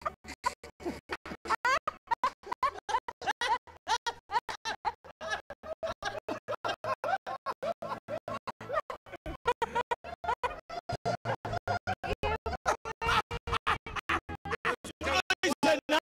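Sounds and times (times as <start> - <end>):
choppy stuttering laughter: 0.0 - 16.0.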